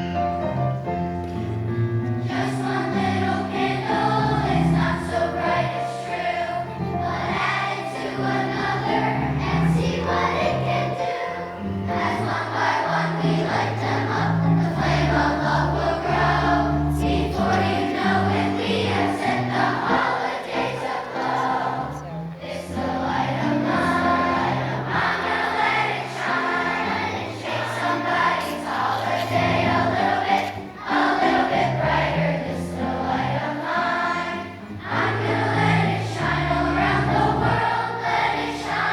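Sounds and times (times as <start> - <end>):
choir singing: 0.1 - 38.9.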